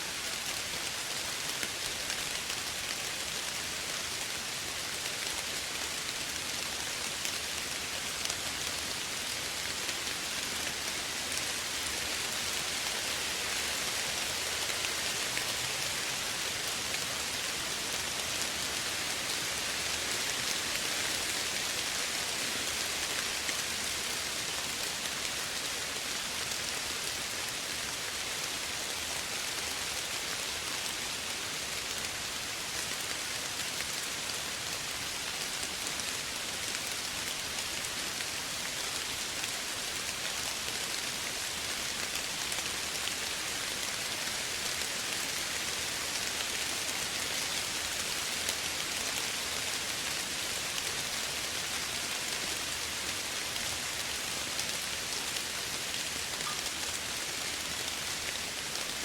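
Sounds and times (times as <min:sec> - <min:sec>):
soft rainfall: 0:00.0 - 0:59.0.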